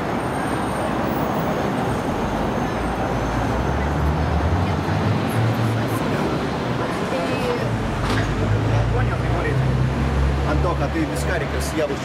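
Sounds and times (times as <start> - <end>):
city street traffic: 0.0 - 12.0
passing vehicle engine rumble: 0.0 - 12.0.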